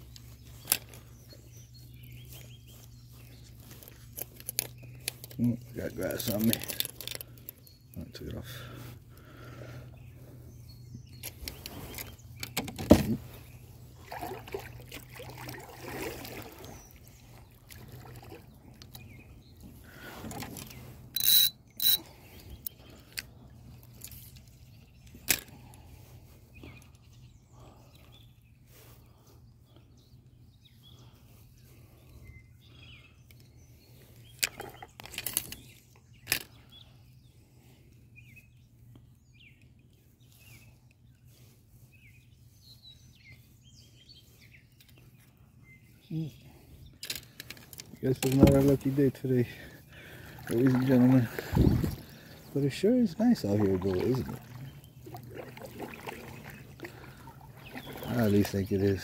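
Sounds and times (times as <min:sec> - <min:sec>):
faint bird chirps: 0:00.0 - 0:15.6, 0:16.4 - 0:47.1, 0:47.8 - 0:59.0.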